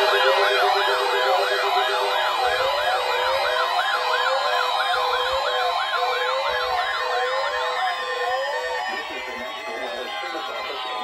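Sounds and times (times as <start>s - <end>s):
steady high tone: 0.0s - 5.4s, 6.2s - 11.0s
electronic sirens wailing: 0.0s - 11.0s.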